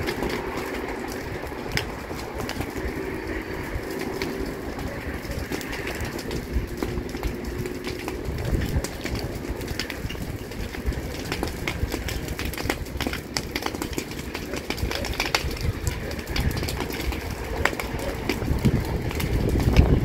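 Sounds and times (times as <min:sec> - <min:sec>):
fire crackling and popping: 0:00.0 - 0:20.0
low rushing fire noise: 0:00.0 - 0:20.0.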